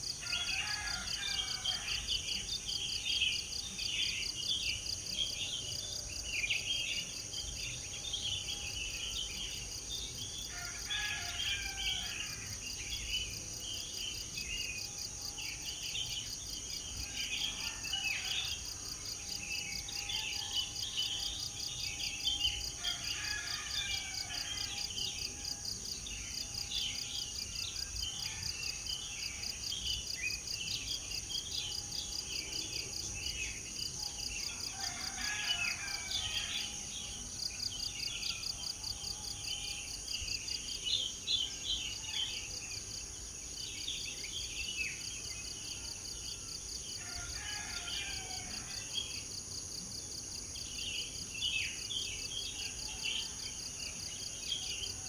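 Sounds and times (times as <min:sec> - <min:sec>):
insect trill: 0:00.0 - 0:55.0.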